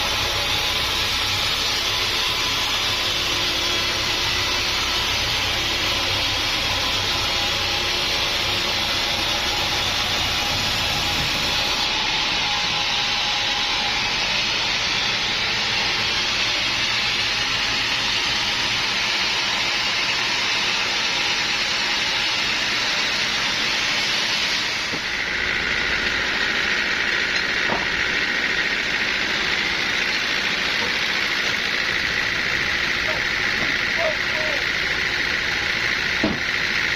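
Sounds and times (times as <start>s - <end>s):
sawmill machinery rushing noise: 0.0s - 36.9s.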